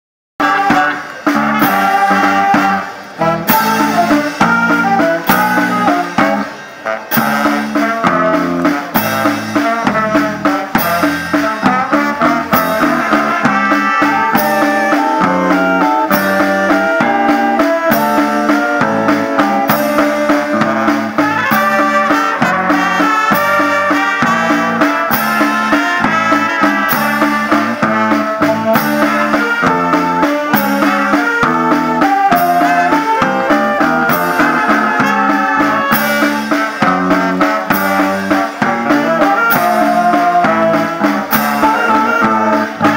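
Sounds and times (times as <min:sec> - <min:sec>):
brass band playing: 0:00.4 - 0:42.9
snare and bass drum beat: 0:00.4 - 0:42.9.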